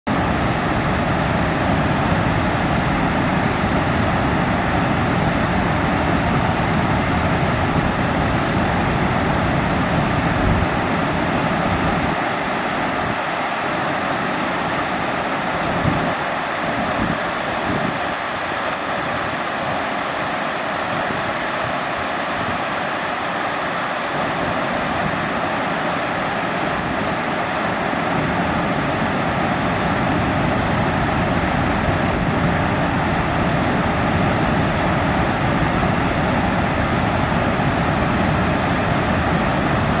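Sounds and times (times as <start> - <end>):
water rushing over rocks: 0.1 - 40.0.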